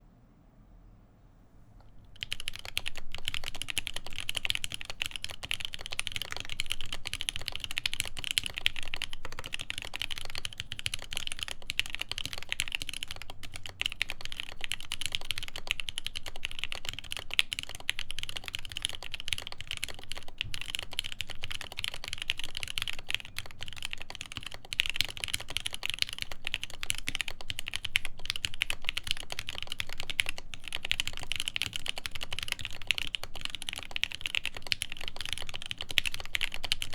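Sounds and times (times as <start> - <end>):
fast mechanical keyboard typing: 2.0 - 36.9.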